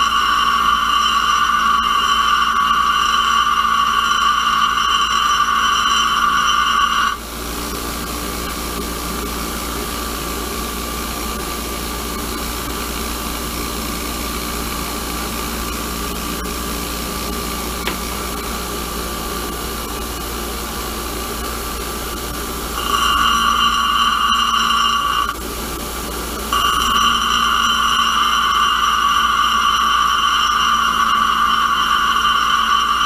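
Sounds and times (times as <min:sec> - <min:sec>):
bench grinder grinding steel: 0:00.0 - 0:33.0
grinder running free hum: 0:00.0 - 0:33.0.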